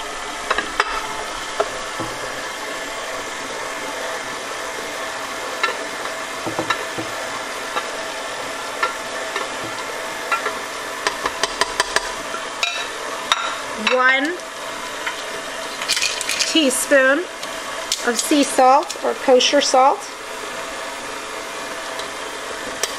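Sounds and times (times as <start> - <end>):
stand mixer motor running: 0.0 - 13.8, 14.4 - 22.9.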